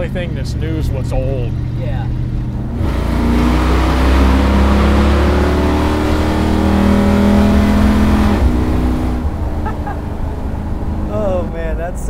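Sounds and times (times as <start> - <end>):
car engine under throttle: 0.0 - 12.0.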